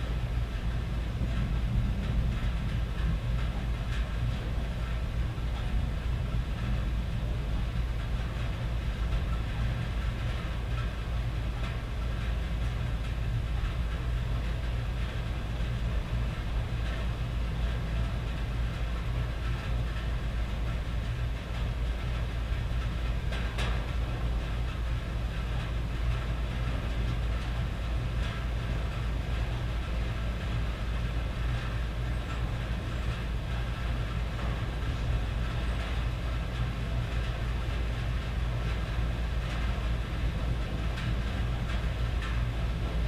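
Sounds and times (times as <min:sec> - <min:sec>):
rain on a tin roof: 0:00.0 - 0:43.0.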